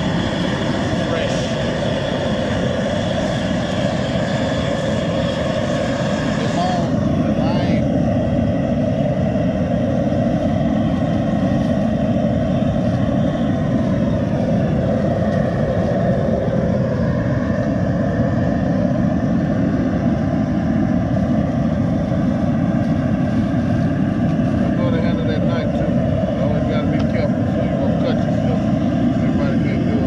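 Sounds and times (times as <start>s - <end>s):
propane jet burner roaring: 0.0s - 30.0s.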